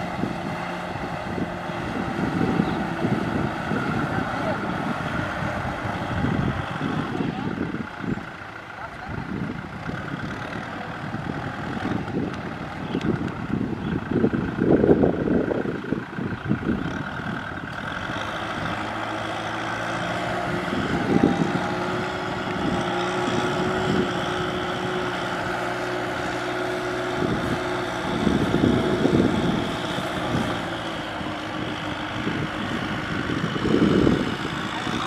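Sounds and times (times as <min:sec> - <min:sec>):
tractor diesel engine: 0:00.0 - 0:35.0
wind buffeting microphone: 0:00.0 - 0:35.0.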